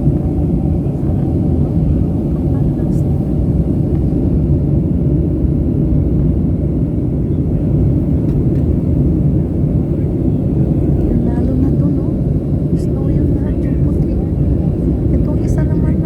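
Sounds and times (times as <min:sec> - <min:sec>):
airliner engines rumbling in cabin: 0:00.0 - 0:16.0.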